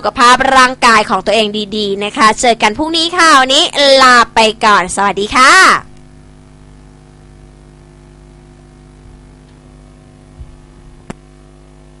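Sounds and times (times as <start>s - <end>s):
electrical mains hum: 0.0s - 12.0s
faint recording hiss: 0.0s - 12.0s.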